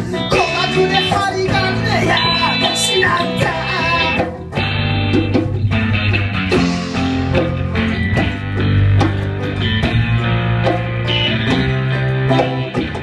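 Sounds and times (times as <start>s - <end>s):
plucked guitar notes: 0.0s - 13.0s.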